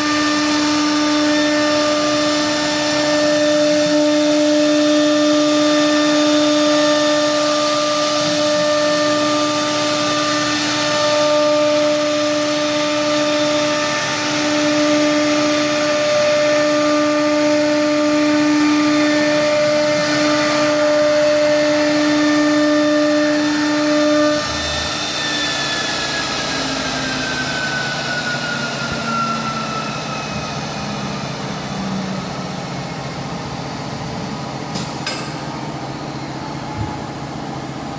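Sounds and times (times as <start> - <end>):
machine running noise: 0.0 - 37.9
router spindle whine: 0.0 - 37.9.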